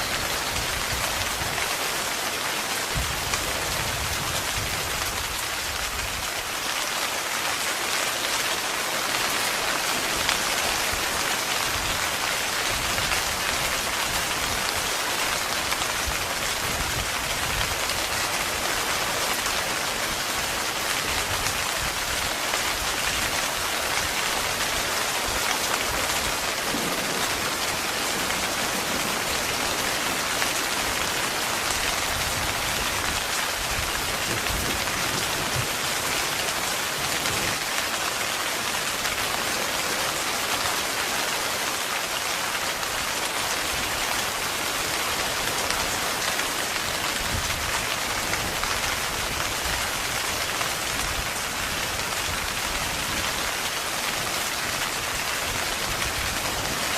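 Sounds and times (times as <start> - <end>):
heavy rain on a tent: 0.0 - 56.9.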